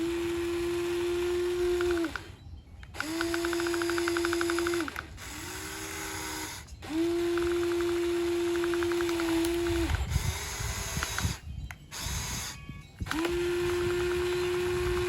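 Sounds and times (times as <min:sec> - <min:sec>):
gears clicking: 0:00.0 - 0:15.0
toy electric motors whining: 0:00.0 - 0:15.0.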